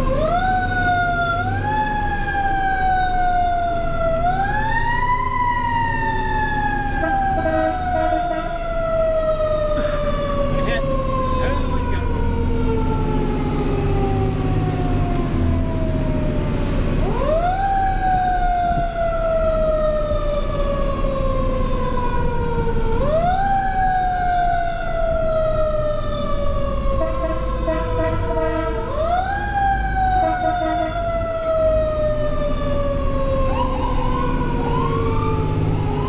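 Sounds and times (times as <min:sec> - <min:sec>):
fire engine siren: 0:00.0 - 0:36.0
low rumble of engine and road: 0:00.0 - 0:36.0.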